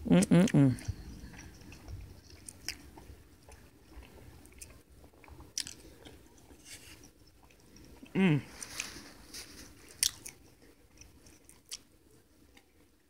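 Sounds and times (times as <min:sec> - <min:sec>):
person chewing food: 0:00.1 - 0:13.0.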